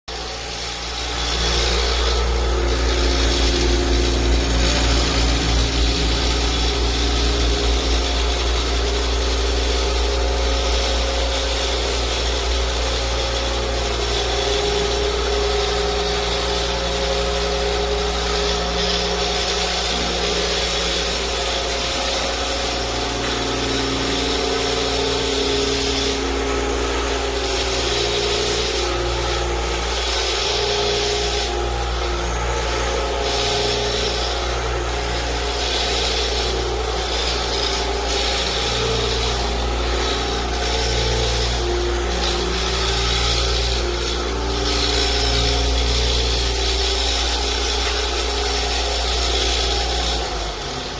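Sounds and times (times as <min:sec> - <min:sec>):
floor scrubbing machine running: 0:00.1 - 0:50.9.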